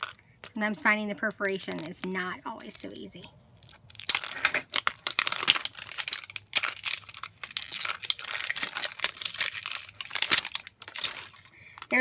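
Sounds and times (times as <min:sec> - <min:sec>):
plastic wrapping crinkling and tearing: 0:00.0 - 0:12.0.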